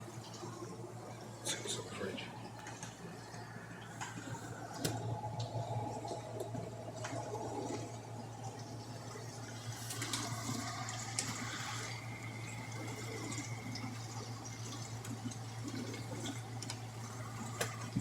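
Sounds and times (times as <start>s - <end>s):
liquid trickling and gurgling: 0.0s - 18.0s
refrigerator humming: 0.0s - 18.0s.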